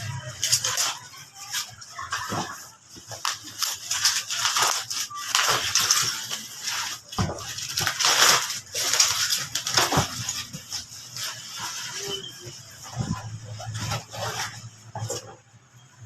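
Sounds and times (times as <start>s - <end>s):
packaging crinkling and tearing: 0.0s - 15.2s.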